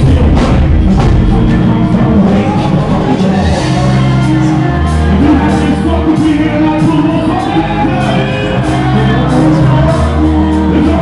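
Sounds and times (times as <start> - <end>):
rapping over a bass-heavy beat: 0.0 - 11.0.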